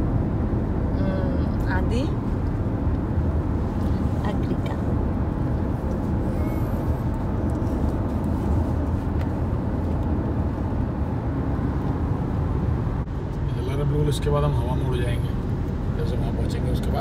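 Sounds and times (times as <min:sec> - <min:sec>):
car driving on highway: 0:00.0 - 0:17.0.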